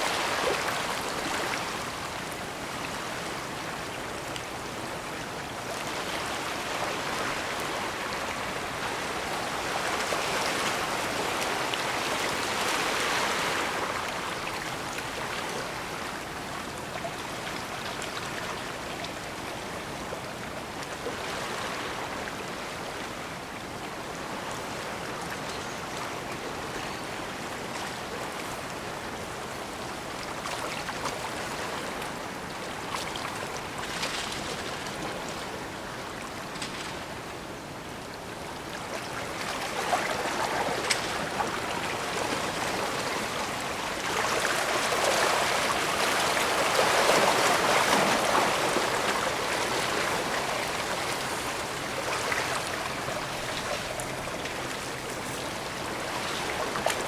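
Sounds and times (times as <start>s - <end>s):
waves washing ashore: 0.0s - 25.4s, 26.1s - 57.0s.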